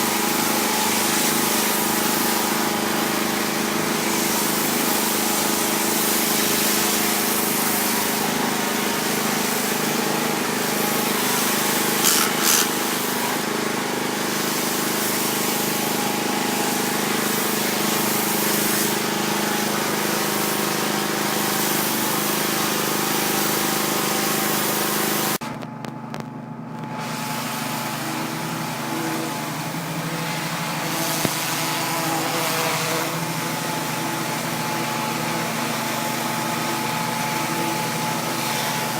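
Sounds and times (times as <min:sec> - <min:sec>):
high-pressure water spray hissing: 0:00.0 - 0:25.4, 0:27.4 - 0:38.9
pressure washer engine running: 0:00.0 - 0:25.4, 0:27.0 - 0:38.9.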